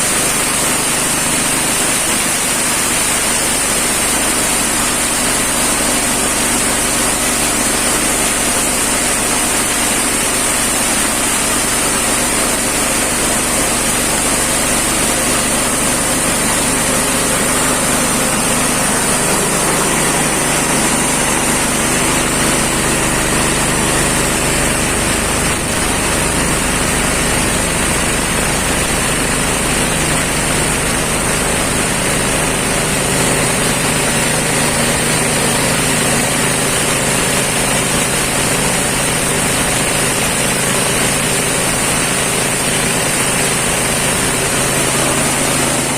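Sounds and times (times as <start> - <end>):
feed chopper machine drone: 0.0 - 45.9.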